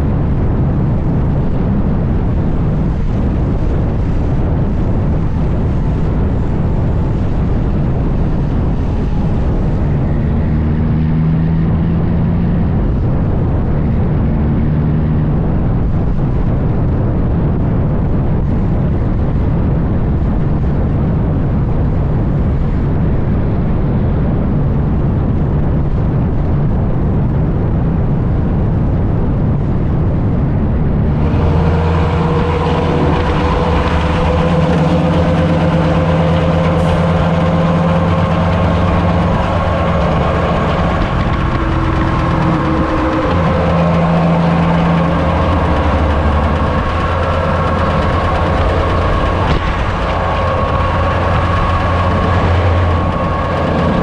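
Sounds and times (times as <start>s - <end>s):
heavy diesel truck engine: 0.0s - 54.0s
steady whine: 0.0s - 54.0s.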